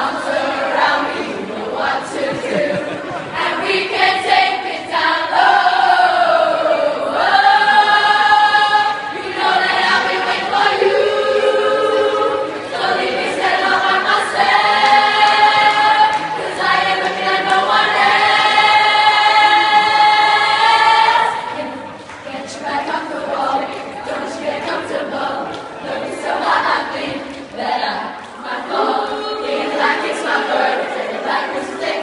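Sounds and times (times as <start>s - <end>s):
choir singing a cappella: 0.0s - 32.0s.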